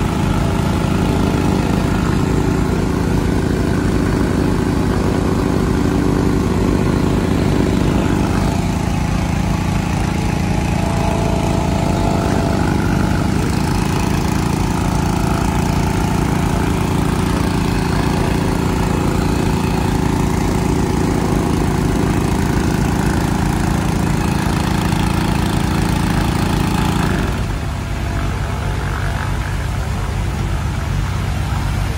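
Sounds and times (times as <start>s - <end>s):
small pump engine running: 0.0s - 31.9s.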